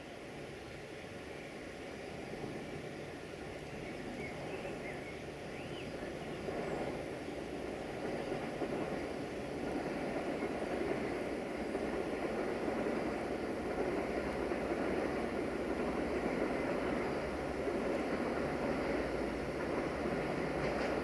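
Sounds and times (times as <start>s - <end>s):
approaching train rumbling: 0.0s - 21.0s.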